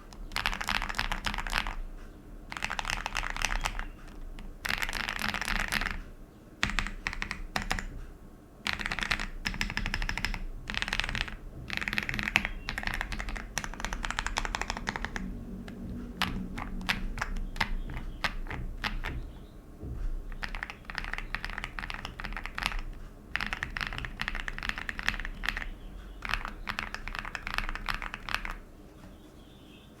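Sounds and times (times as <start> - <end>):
mechanical keyboard typing: 0.0 - 8.0, 8.6 - 19.4, 20.2 - 28.6.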